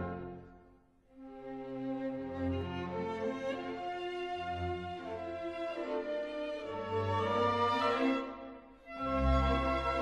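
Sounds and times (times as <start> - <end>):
cello: 0.0 - 10.0
violin: 0.0 - 10.0.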